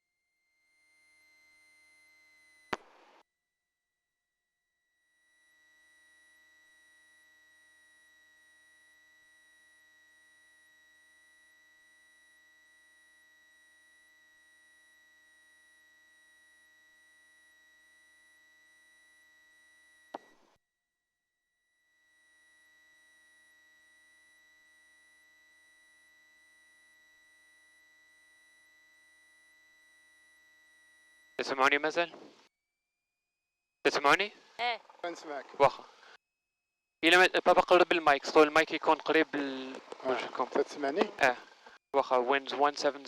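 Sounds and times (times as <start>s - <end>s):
faint electronic whine: 0.1s - 3.2s, 4.8s - 20.6s, 21.5s - 32.5s, 33.9s - 36.2s, 37.0s - 43.0s.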